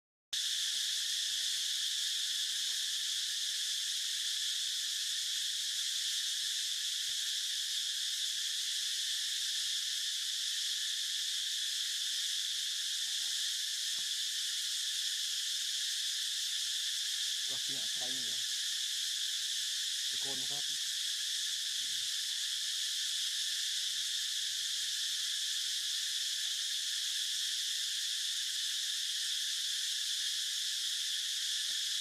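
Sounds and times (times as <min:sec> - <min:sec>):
insect chorus buzzing: 0:00.4 - 0:32.0.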